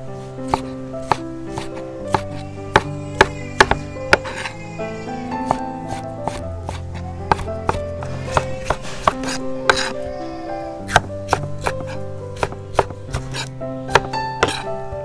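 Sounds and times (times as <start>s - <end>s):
background music: 0.0s - 15.0s
knife chopping on cutting board: 0.5s - 4.5s, 5.5s - 10.0s, 10.9s - 14.7s.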